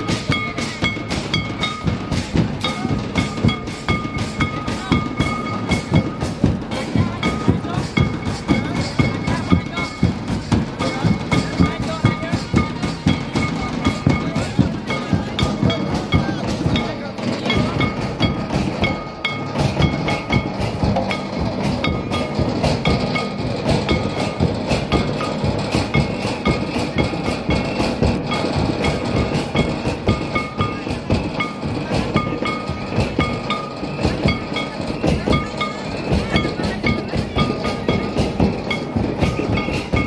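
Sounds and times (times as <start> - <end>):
fast steady drumming: 0.0 - 40.0.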